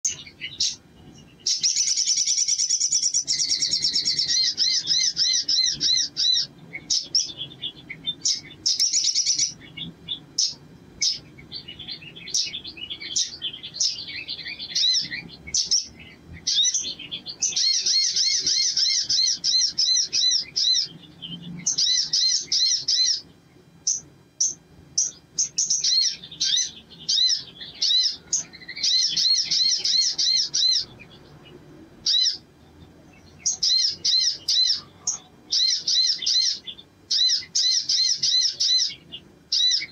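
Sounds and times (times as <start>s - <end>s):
bird chirps: 0.0s - 39.9s
bird twittering trills: 0.0s - 39.9s.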